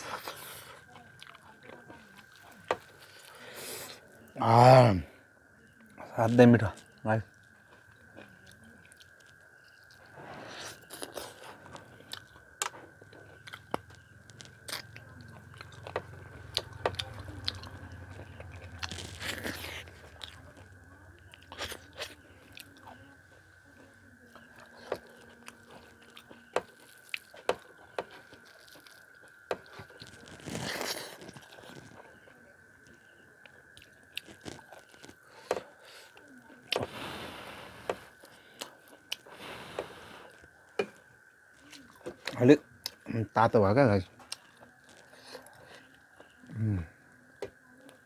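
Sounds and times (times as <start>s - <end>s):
man chewing food: 0.0s - 4.5s, 6.6s - 43.1s, 44.0s - 48.0s.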